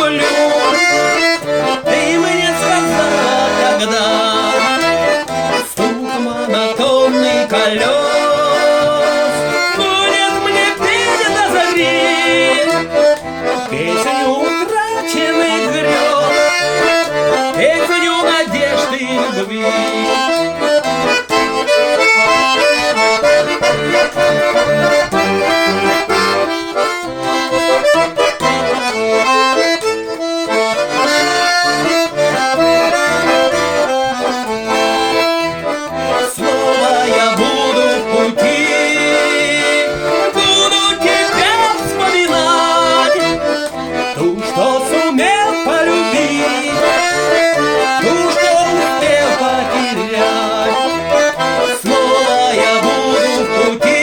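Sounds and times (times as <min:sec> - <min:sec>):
button accordion playing: 0:00.0 - 0:54.0.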